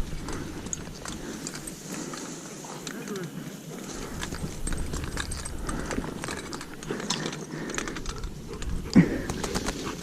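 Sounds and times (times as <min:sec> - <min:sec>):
crunching and rustling in dry cover: 0:00.0 - 0:10.0.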